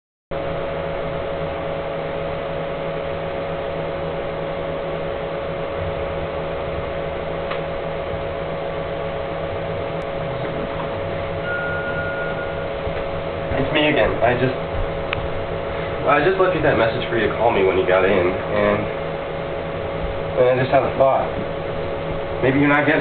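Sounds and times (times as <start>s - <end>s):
fan-like hum and hiss: 0.3s - 23.0s.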